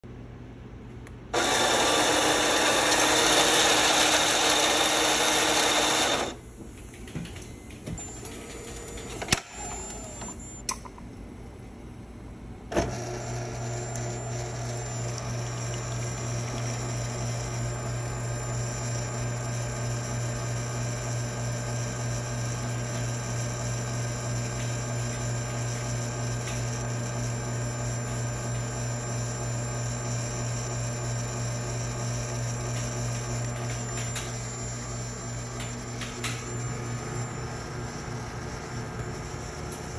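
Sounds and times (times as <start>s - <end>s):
coffee grinder running: 1.4s - 6.4s, 12.9s - 39.9s
pump humming: 1.4s - 6.4s, 12.8s - 39.9s.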